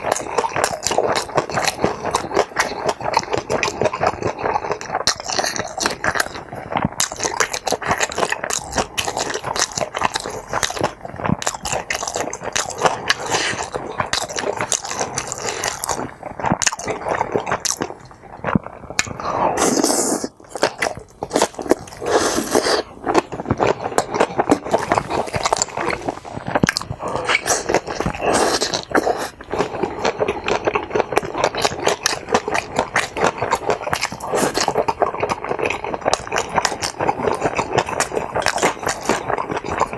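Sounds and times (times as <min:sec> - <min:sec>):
mouth clicks and smacks: 0:00.0 - 0:39.9
person chewing food: 0:00.0 - 0:39.9.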